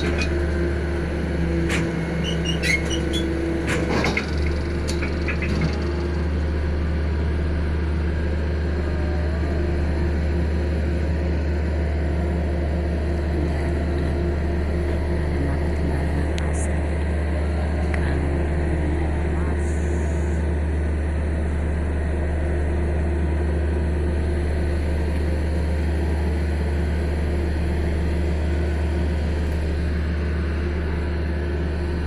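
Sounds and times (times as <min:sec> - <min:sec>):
pile-driving rig engine droning: 0:00.0 - 0:32.0.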